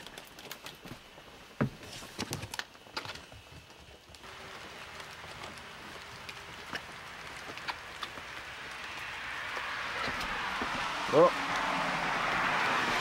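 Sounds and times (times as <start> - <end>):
steady hiss of rain: 0.0 - 13.0
raindrops tapping: 2.3 - 13.0.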